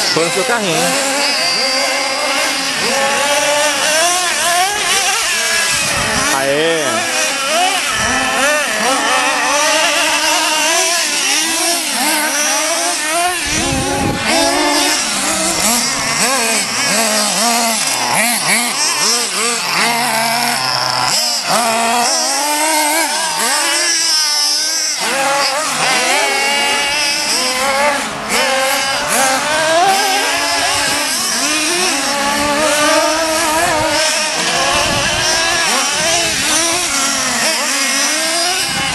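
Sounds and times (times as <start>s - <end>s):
small engines buzzing high-pitched: 0.0s - 38.9s.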